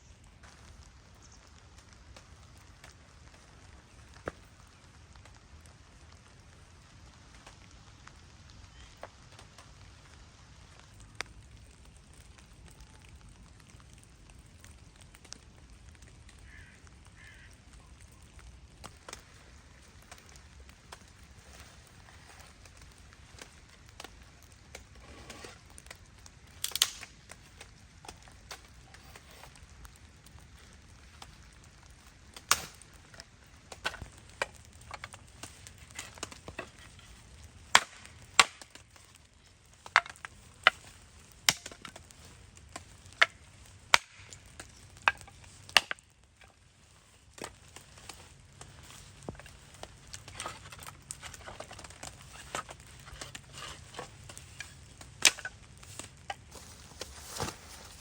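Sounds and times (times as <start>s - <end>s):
faint rain hiss: 0.0s - 58.0s
firewood knocking and cracking: 0.2s - 58.0s.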